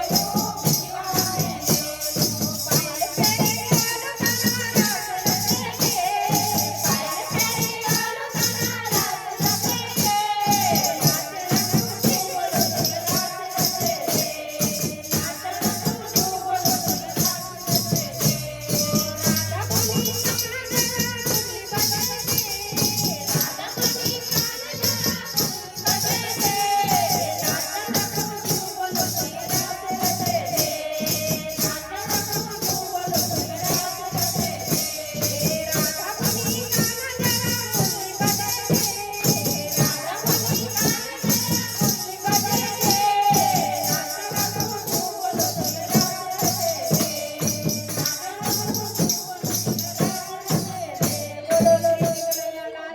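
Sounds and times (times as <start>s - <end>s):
fast rhythmic percussion: 0.0s - 52.9s
person singing devotional song: 0.0s - 52.9s.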